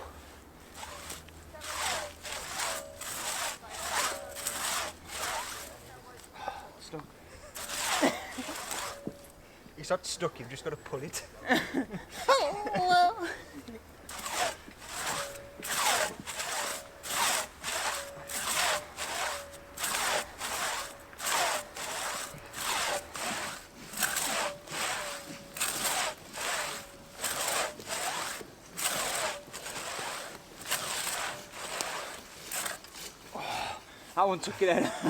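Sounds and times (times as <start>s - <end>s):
hand saw cutting log: 0.0s - 34.6s.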